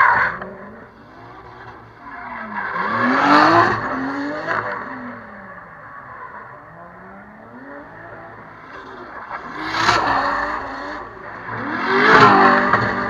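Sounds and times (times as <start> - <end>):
car engine revving hard: 0.0 - 5.4, 7.0 - 13.0.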